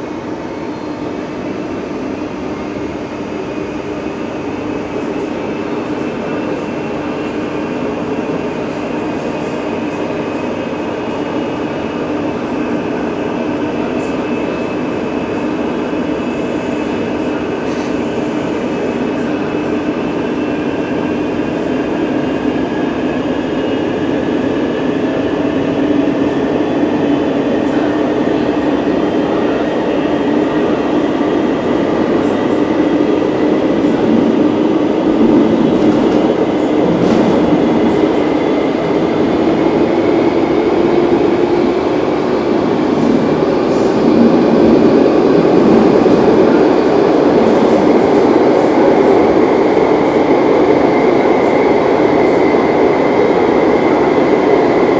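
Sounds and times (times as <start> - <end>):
train running gear rumble: 0.0 - 54.9.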